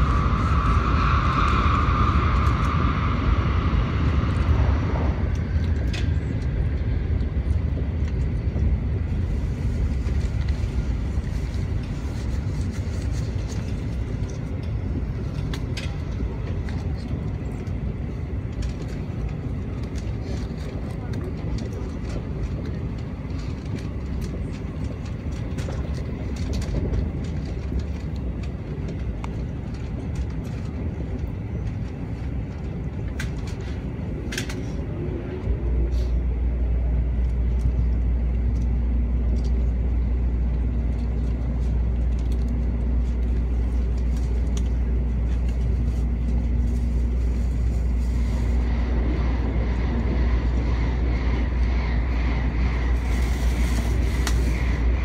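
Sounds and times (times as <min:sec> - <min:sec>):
train cabin rumble: 0:00.0 - 0:55.0.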